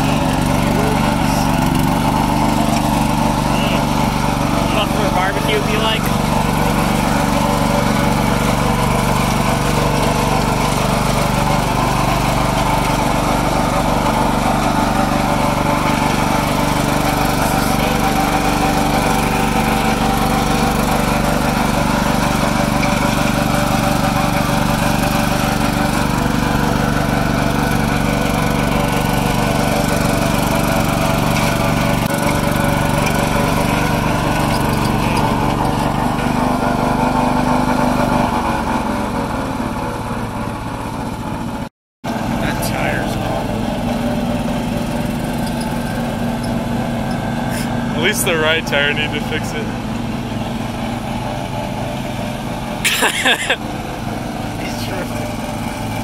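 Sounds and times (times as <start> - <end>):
riding lawn mower engine running: 0.0 - 56.0.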